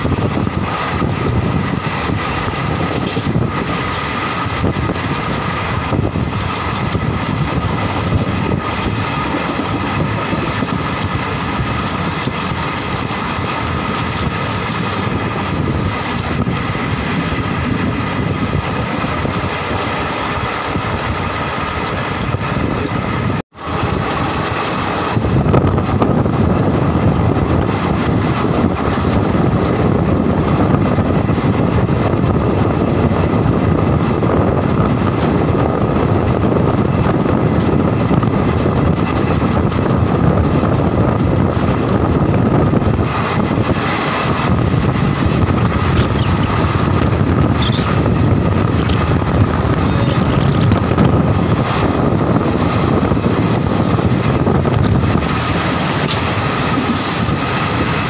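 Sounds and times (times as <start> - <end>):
train rumbling and rattling: 0.0 - 58.0.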